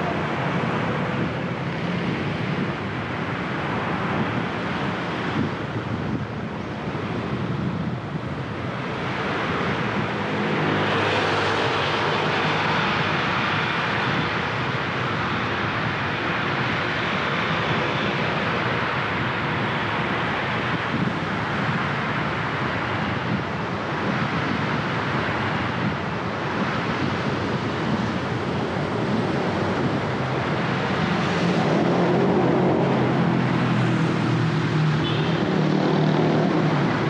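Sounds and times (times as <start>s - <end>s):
traffic on wet road: 0.0s - 37.0s.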